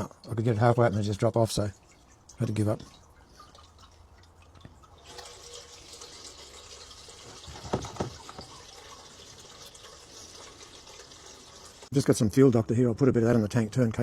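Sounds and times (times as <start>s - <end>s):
diesel gurgling into fuel tank: 0.0s - 12.4s.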